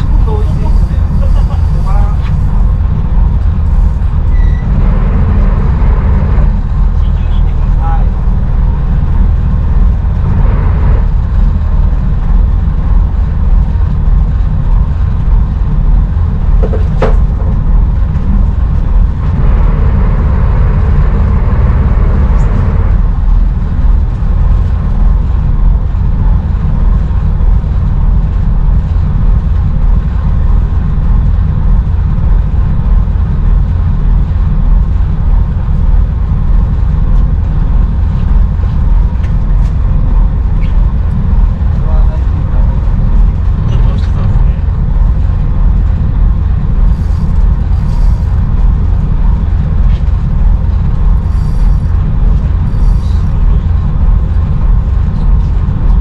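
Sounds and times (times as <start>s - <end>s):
low rumble on boat deck: 0.0s - 56.0s.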